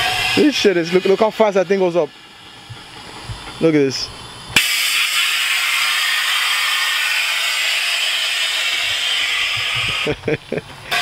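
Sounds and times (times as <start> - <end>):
compressed air hissing: 0.0 - 11.0.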